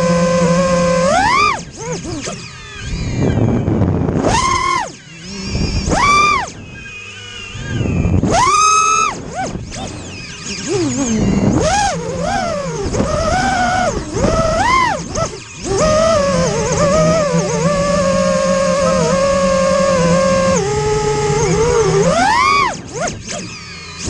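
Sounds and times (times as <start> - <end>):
drone motors whining: 0.0 - 24.0.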